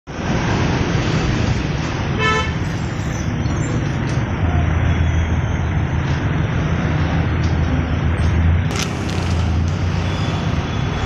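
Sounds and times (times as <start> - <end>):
traffic engines rumbling: 0.1 - 11.0.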